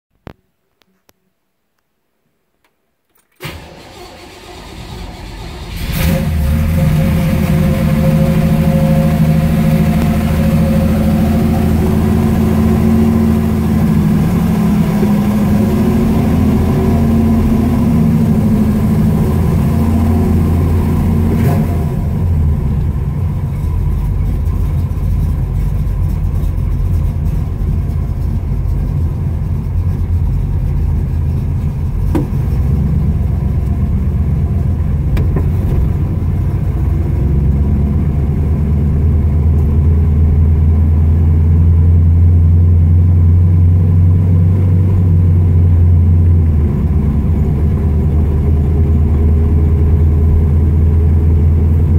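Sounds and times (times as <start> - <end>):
car engine running at low revs: 5.3 - 51.9.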